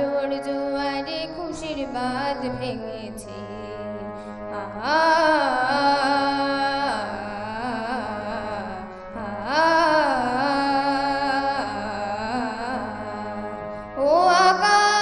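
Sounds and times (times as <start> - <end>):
girl singing: 0.0 - 13.4, 14.0 - 15.0
harmonium drone: 0.0 - 15.0.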